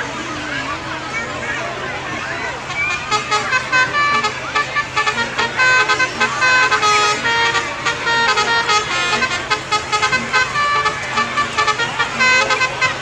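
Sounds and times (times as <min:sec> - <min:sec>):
multi-tone air horns playing tune: 0:02.0 - 0:13.0.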